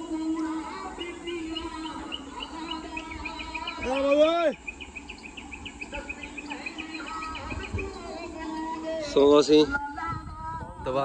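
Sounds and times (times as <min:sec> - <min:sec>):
drawn-out rising call: 0:00.0 - 0:09.2
rapid high chirping: 0:00.0 - 0:09.2
faint voices: 0:00.0 - 0:11.0.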